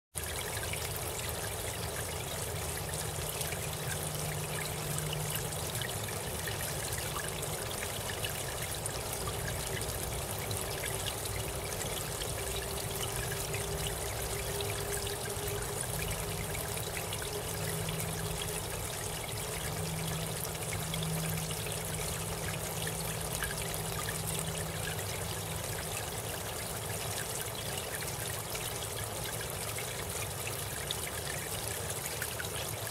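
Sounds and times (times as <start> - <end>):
fountain water splashing: 0.2 - 32.9.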